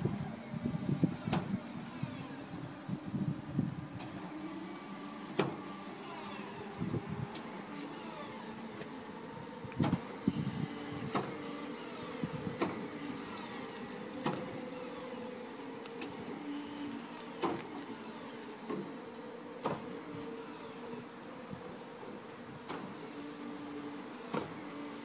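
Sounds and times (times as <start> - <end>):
electric drive motor whine: 0.0 - 25.0.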